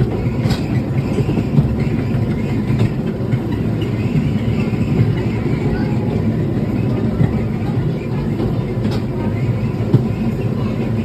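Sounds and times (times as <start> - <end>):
tour train rumbling: 0.0 - 11.0.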